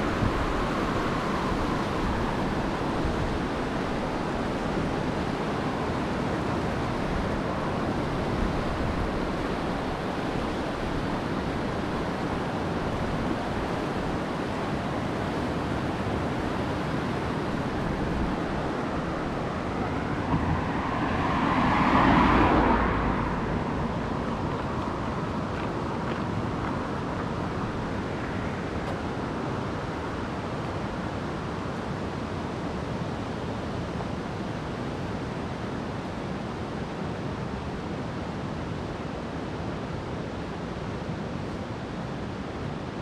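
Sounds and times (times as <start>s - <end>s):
whitewater rapids rushing: 0.0s - 43.0s.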